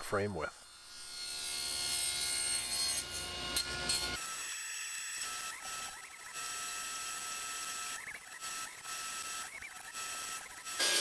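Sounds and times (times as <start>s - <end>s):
saw running with high tone: 0.6s - 11.0s
table saw cutting wood: 0.6s - 11.0s.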